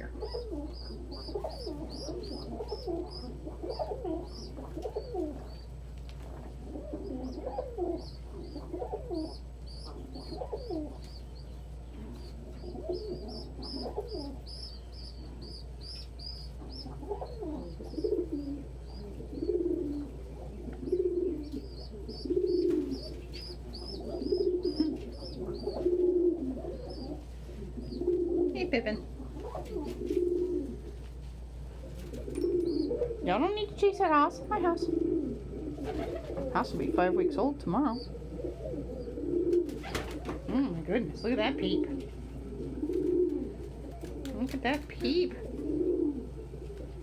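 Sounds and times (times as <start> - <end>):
pigeons cooing: 0.0 - 47.0.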